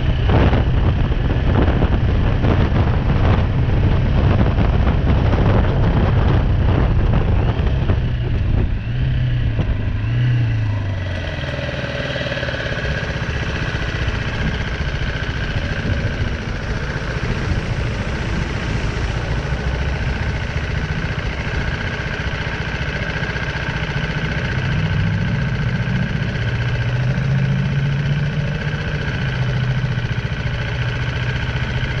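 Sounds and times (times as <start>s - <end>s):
wind noise on microphone: 0.0s - 27.2s
motorcycle engine idling: 0.0s - 32.0s.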